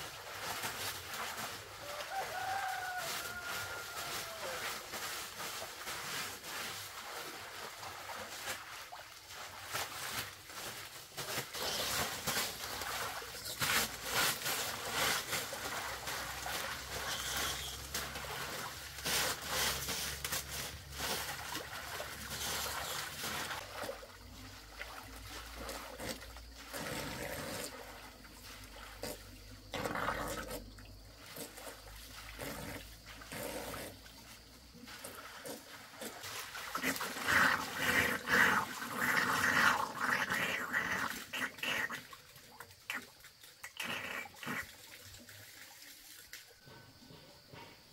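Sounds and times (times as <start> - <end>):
water trickling and splashing: 0.0 - 46.8.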